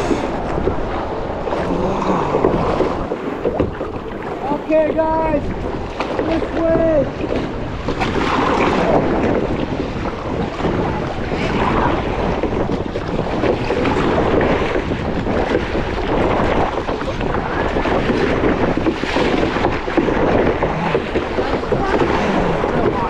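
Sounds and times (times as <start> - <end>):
water slapping against kayak: 0.0 - 23.0
wind buffeting microphone: 0.0 - 23.0.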